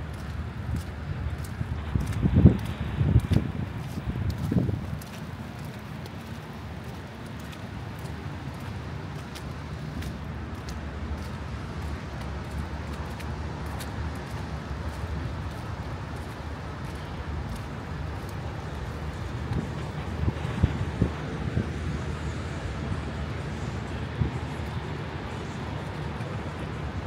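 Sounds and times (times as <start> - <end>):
road traffic rumble: 0.0 - 27.0
wind: 0.0 - 27.0.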